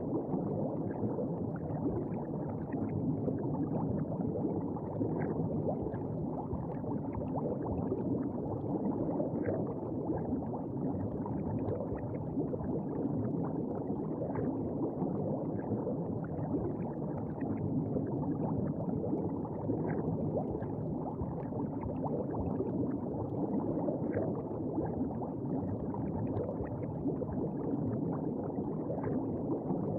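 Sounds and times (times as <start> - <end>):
muffled underwater bubbling: 0.0 - 29.9.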